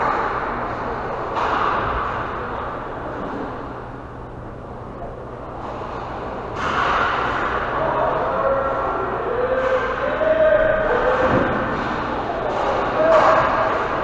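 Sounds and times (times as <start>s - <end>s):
distant rink noise: 0.0s - 4.0s, 5.2s - 14.0s
steady low hum: 0.0s - 14.0s.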